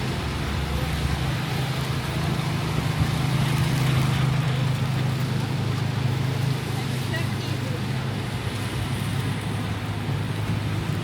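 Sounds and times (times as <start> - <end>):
traffic on wet street: 0.0 - 11.0
vehicle engine humming: 0.0 - 11.0.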